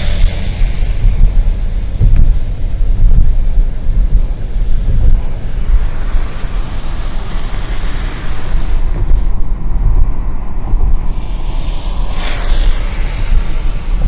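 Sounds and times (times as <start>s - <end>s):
loud whoosh: 0.0s - 14.0s
road traffic noise: 0.0s - 14.0s
wind buffeting microphone: 0.0s - 14.0s.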